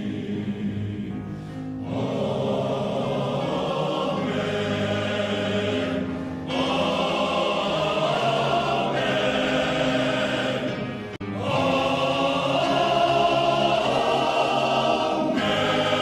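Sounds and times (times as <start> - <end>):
male voice choir singing: 0.0 - 16.0.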